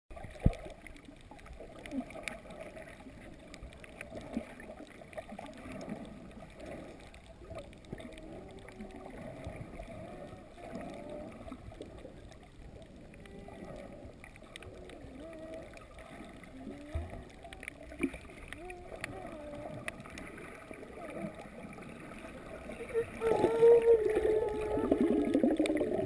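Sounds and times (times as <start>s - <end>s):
underwater clicks: 0.1s - 26.0s
underwater water noise: 0.1s - 26.0s
person humming underwater: 1.6s - 4.8s, 5.4s - 26.0s.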